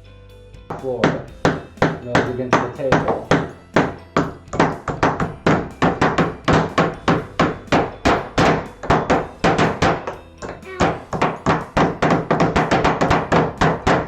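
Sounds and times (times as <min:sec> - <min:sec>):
hammer driving nail into wood: 0:00.7 - 0:14.0.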